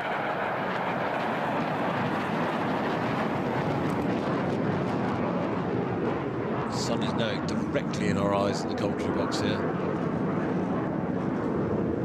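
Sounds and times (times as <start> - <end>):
jet aircraft rushing noise: 0.0 - 12.0.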